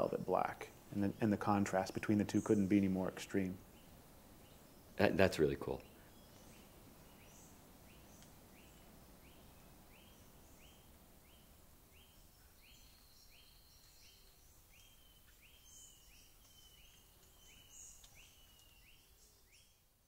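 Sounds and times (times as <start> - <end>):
low hiss: 0.0 - 20.0.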